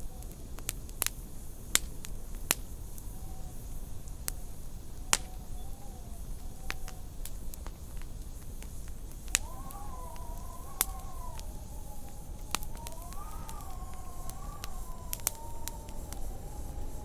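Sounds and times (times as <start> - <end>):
wood fire crackling and popping: 0.0 - 17.0
wind howling: 2.8 - 17.0.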